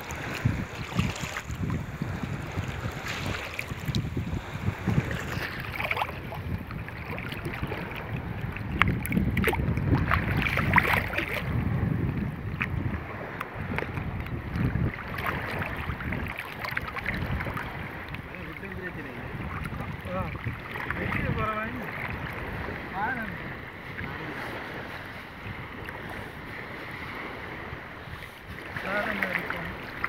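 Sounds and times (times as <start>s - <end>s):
small water splashes: 0.0s - 30.0s
water sloshing and lapping: 0.0s - 30.0s
wind buffeting microphone: 0.0s - 30.0s.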